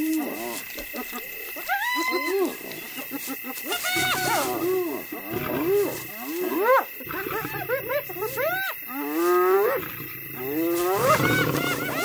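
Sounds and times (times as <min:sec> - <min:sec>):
hyenas yelping and whooping: 0:00.6 - 0:09.8, 0:10.4 - 0:12.0.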